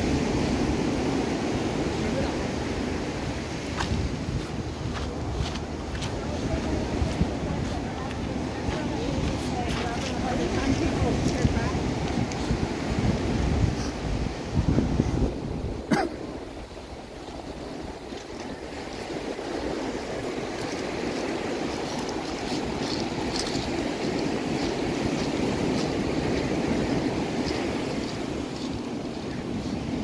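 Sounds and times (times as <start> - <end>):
surf washing onto a beach: 0.0 - 30.0
wind buffeting the microphone: 0.0 - 30.0.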